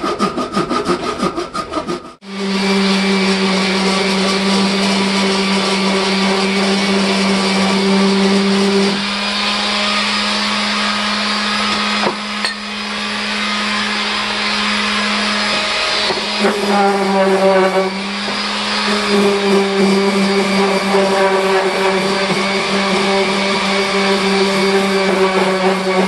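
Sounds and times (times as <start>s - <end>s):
power tool motor humming: 1.5s - 26.0s.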